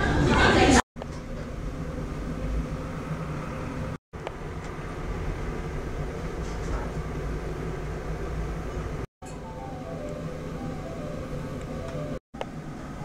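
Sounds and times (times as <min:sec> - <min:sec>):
steady low hum: 0:01.0 - 0:13.0.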